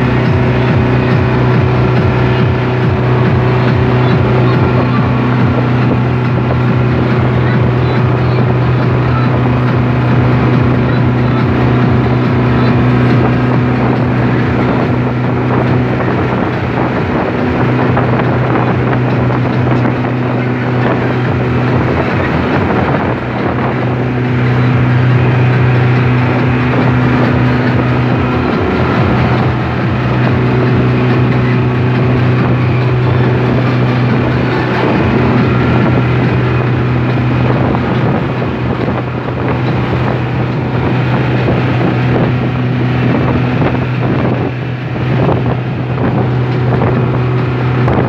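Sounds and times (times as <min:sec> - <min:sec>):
outboard motor running: 0:00.0 - 0:48.0
rushing water from wake: 0:00.0 - 0:48.0
wind: 0:00.0 - 0:48.0.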